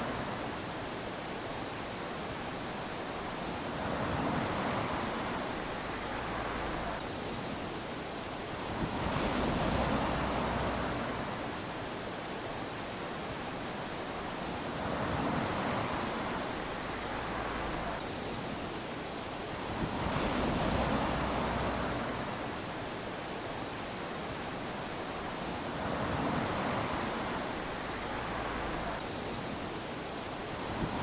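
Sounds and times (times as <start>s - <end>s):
small waves lapping on sand: 0.0s - 31.0s.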